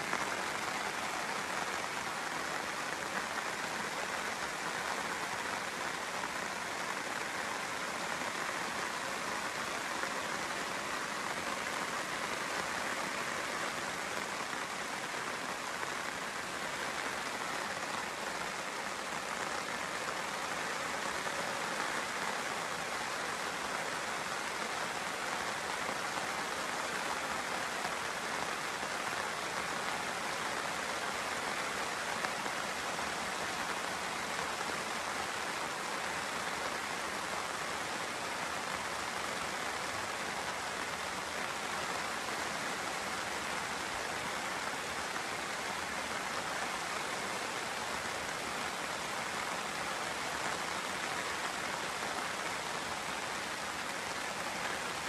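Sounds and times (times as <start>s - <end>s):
rain falling on tarp: 0.0s - 55.0s.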